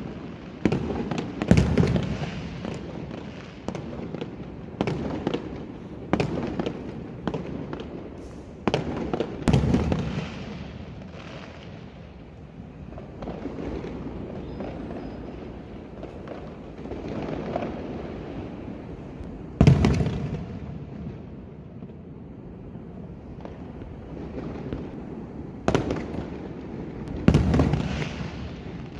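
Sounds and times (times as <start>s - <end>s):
fireworks bangs: 0.0s - 28.9s.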